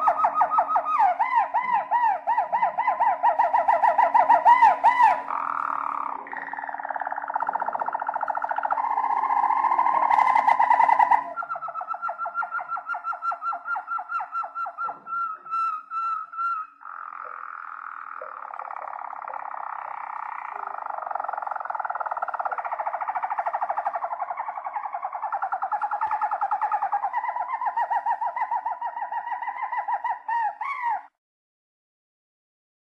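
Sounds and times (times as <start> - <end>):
canary singing trill: 0.0 - 31.1.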